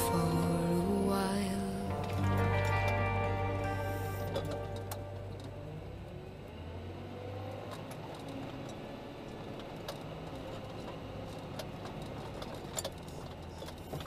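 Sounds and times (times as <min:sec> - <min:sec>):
diesel engine low hum: 0:00.0 - 0:14.0.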